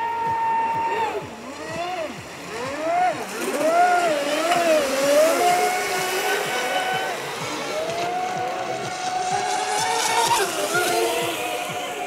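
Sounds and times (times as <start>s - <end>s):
rc boat motor running: 0.0s - 12.0s.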